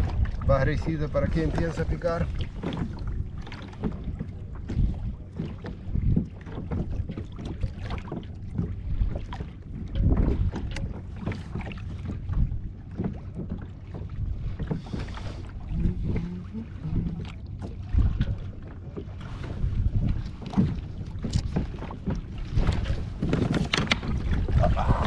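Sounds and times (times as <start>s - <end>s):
small waves lapping against hull: 0.0s - 25.0s
wind buffeting microphone: 0.0s - 25.0s.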